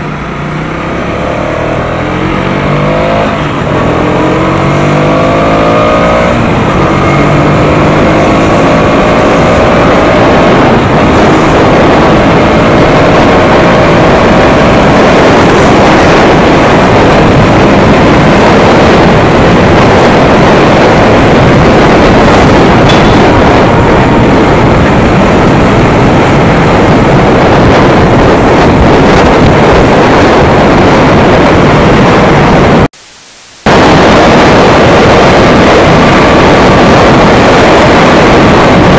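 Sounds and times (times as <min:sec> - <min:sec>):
motorcycle engine accelerating: 0:00.0 - 0:32.9, 0:33.7 - 0:38.9
wind rushing over microphone: 0:00.0 - 0:38.9.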